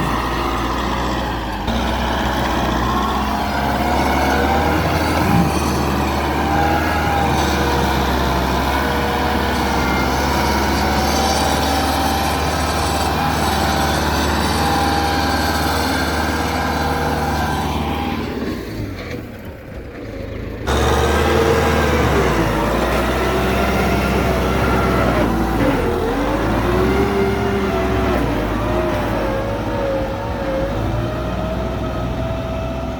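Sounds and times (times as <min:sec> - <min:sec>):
tractor engine under load: 0:00.0 - 0:32.9.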